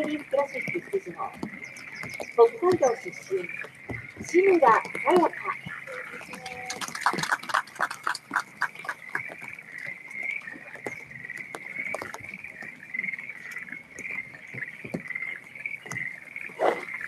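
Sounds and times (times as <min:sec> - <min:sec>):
chorus of animal calls: 0:00.0 - 0:17.0.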